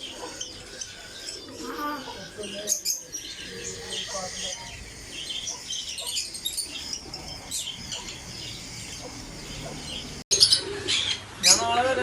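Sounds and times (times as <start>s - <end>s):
parrot chicks chirping: 0.0s - 11.7s.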